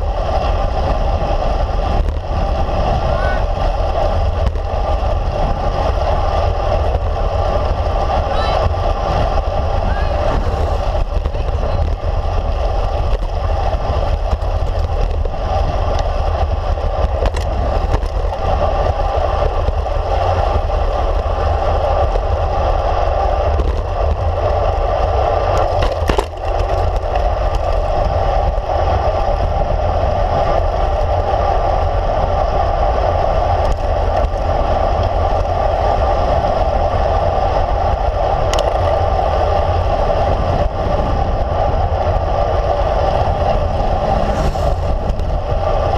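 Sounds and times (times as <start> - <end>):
tyres rolling on road: 0.0 - 45.9
wind buffeting microphone: 0.0 - 45.9
wind rush: 0.0 - 45.9.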